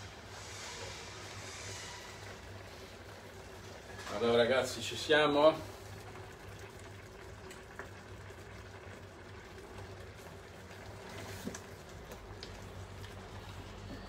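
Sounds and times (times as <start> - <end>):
broth bubbling in a pan: 0.0 - 14.0.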